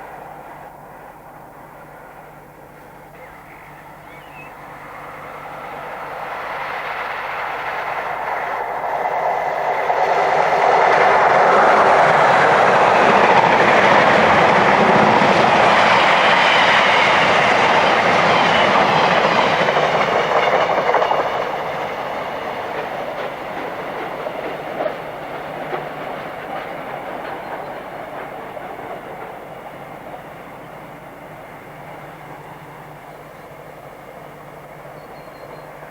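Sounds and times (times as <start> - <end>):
express train passing: 0.0 - 35.9
wheel and rail noise: 0.0 - 35.9.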